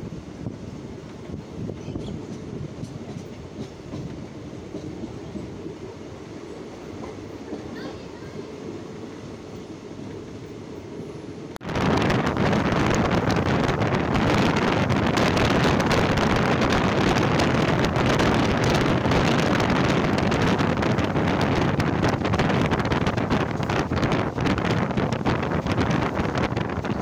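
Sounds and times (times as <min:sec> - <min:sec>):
wind rushing over microphone: 0:00.0 - 0:06.2, 0:11.5 - 0:27.0
muffled train rumble: 0:00.0 - 0:27.0
train coaches running noise: 0:00.0 - 0:27.0.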